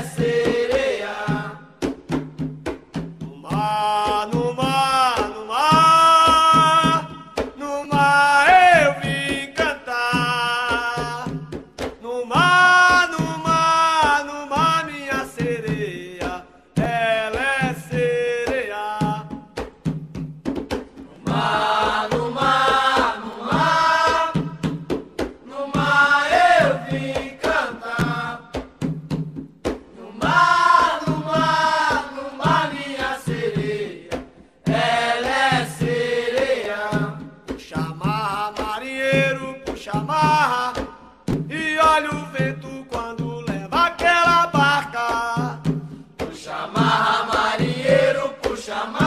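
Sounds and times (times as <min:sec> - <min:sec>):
voices singing: 0:00.0 - 0:01.8, 0:03.2 - 0:11.4, 0:12.0 - 0:19.4, 0:21.0 - 0:28.7, 0:29.9 - 0:49.0
steady low drum beat: 0:00.0 - 0:49.0.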